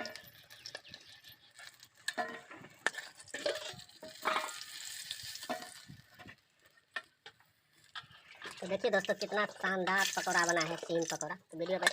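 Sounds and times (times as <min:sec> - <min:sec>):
metal spoon scraping a pan: 0:00.0 - 0:07.1, 0:07.8 - 0:11.9
pakoras sizzling in oil: 0:00.0 - 0:11.9.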